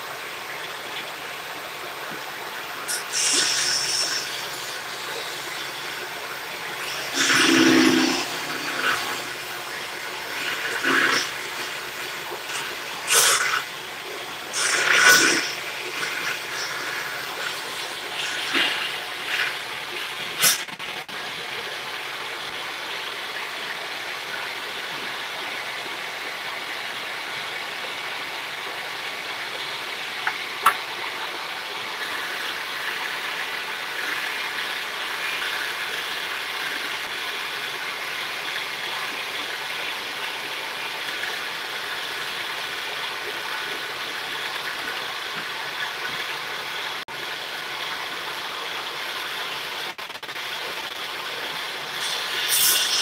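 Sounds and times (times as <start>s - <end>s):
machine whirring steadily: 0.0s - 47.3s.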